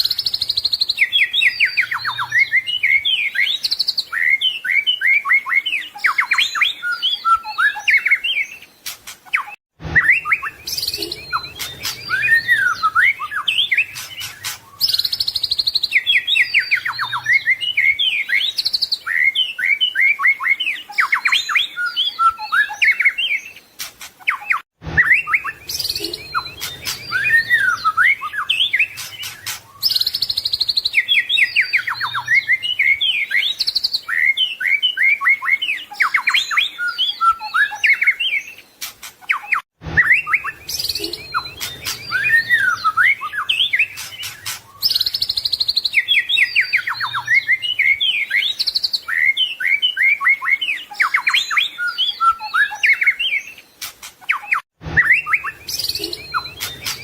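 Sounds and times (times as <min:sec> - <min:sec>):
songbird singing whistles and trills: 0:00.0 - 0:57.0.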